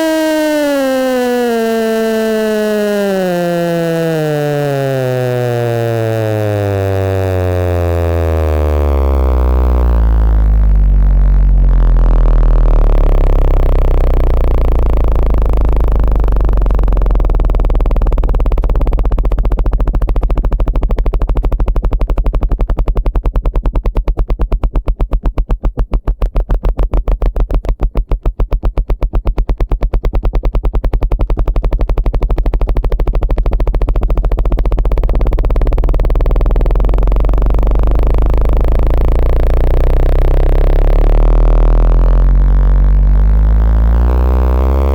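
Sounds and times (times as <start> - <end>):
low synthesized bass tone: 0.0 - 23.8, 31.7 - 44.9.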